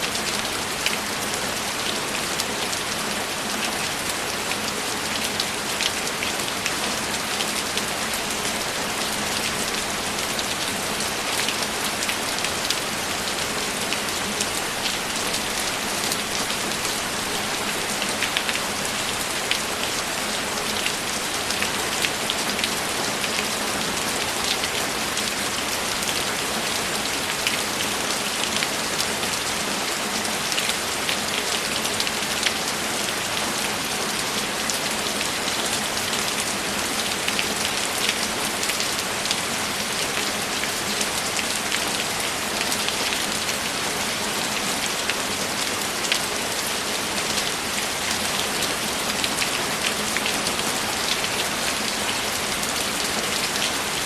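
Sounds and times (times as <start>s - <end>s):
steady rain on a surface: 0.0s - 54.0s.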